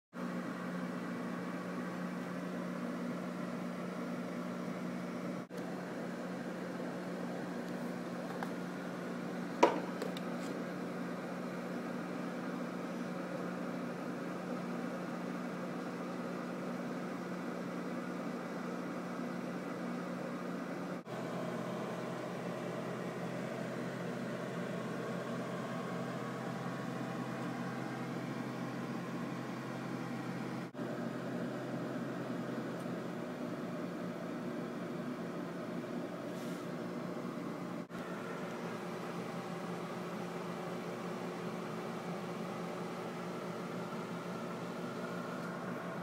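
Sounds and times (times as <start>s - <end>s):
aquarium equipment humming: 0.2s - 46.0s.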